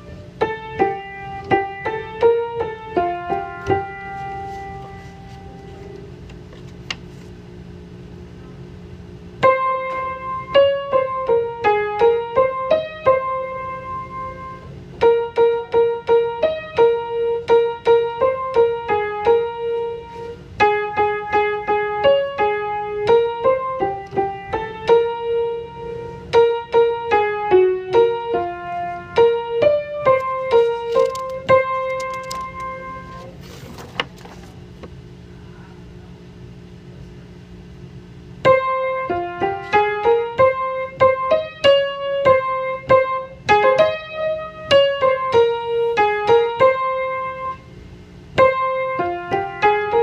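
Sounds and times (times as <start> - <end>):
piano melody: 0.0 - 6.3, 9.3 - 33.9, 38.4 - 47.7, 48.4 - 50.0.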